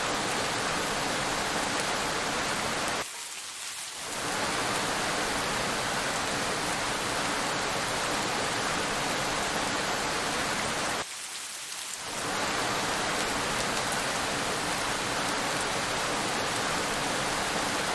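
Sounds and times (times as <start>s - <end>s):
rain falling on road: 0.0s - 17.9s.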